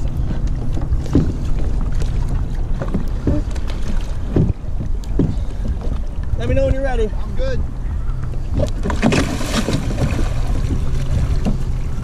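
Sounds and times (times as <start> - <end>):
water splashing around kayak: 0.0 - 12.0
wind rumbling on microphone: 0.0 - 12.0.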